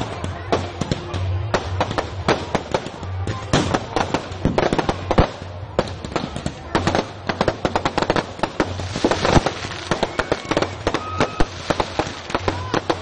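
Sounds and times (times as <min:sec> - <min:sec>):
firecrackers bursting: 0:00.0 - 0:13.0.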